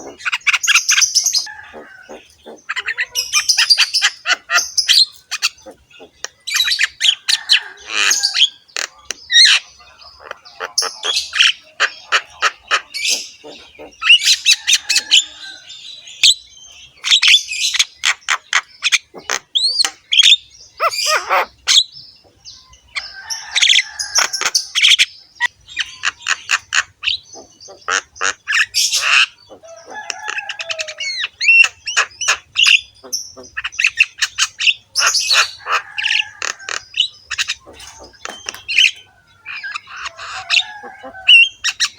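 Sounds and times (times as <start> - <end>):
bird singing harsh chatter: 0.0 - 41.9.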